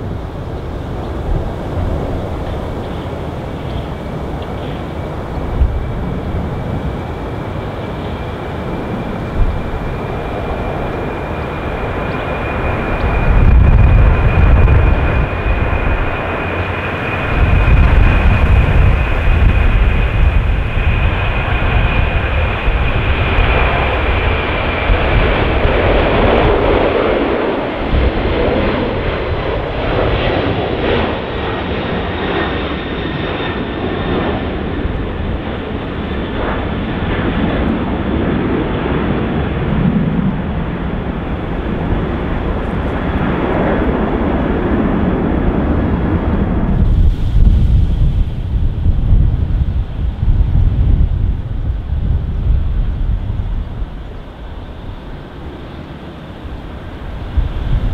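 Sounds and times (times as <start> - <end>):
high jet engine whine: 0.0 - 57.9
jet engines rumbling: 0.0 - 57.9.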